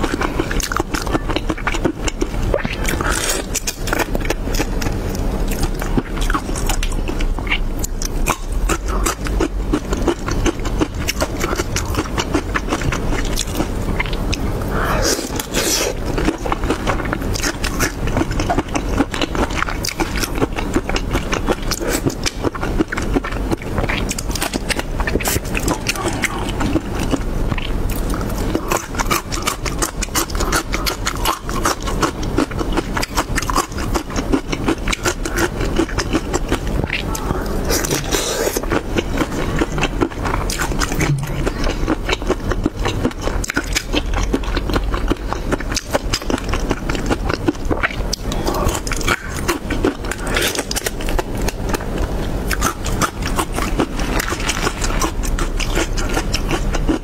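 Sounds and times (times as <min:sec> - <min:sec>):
wet chewing and lip smacks: 0:00.0 - 0:57.0.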